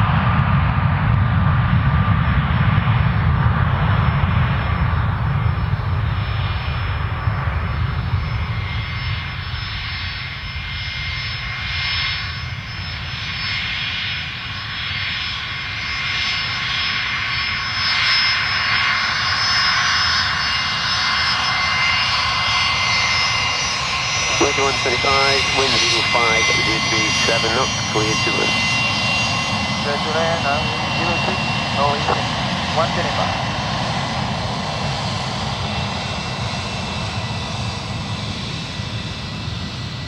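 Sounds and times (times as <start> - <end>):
jet engines rumbling on takeoff: 0.0 - 40.0
jet engines whining at taxi: 0.0 - 40.0.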